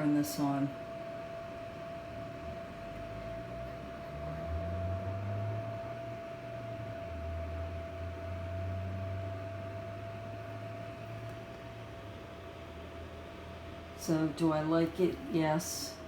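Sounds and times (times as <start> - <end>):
constant whine: 0.0 - 16.0
heater fan blowing air: 0.0 - 16.0
low hum: 0.0 - 16.0.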